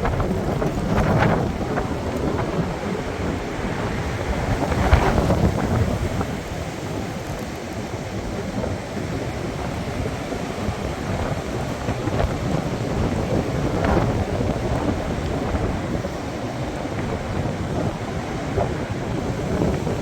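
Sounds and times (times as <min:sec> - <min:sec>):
wind buffeting microphone: 0:00.0 - 0:20.0
wind roaring through trees: 0:00.0 - 0:20.0.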